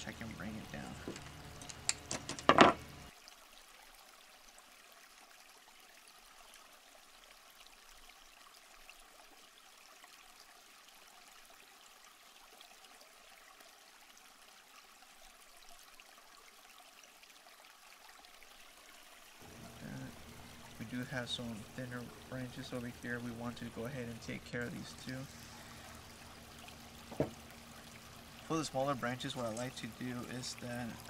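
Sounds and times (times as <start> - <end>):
faint steady hiss: 0.0 - 5.2, 5.9 - 31.0.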